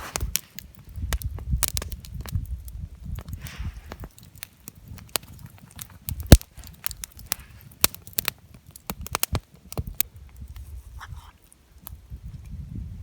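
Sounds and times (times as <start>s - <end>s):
campfire crackling and popping: 0.0s - 12.6s.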